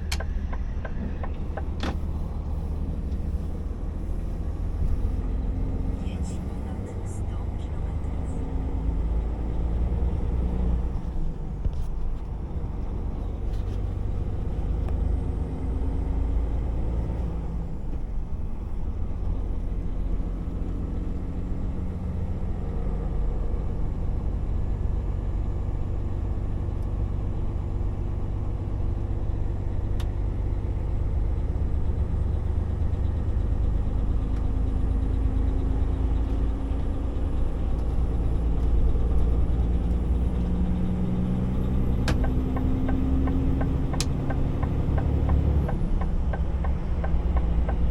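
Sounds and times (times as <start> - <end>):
truck engine and road rumble: 0.0 - 47.9.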